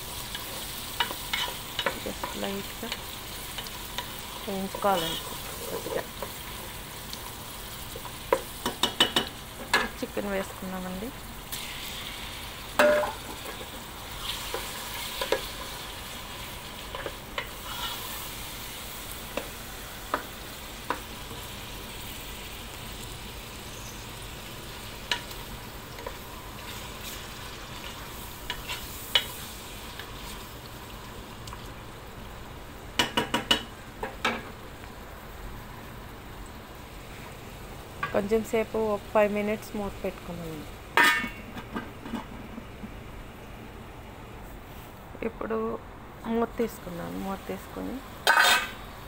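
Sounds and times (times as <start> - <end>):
food sizzling in oil: 0.0 - 43.5, 46.3 - 49.0.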